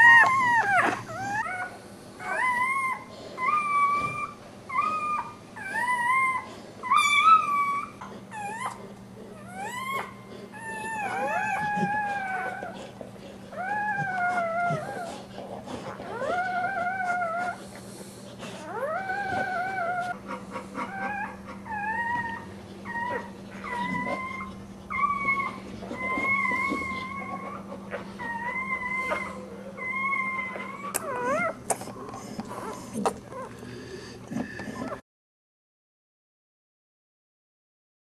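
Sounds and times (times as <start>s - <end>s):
puppy crying: 0.0s - 17.7s, 18.4s - 33.7s, 34.4s - 35.0s.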